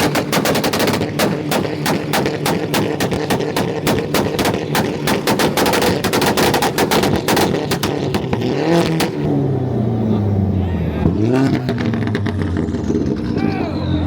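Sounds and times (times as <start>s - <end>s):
exhaust banging and popping: 0.0s - 9.5s, 11.0s - 13.5s
car engine revving: 0.0s - 14.0s.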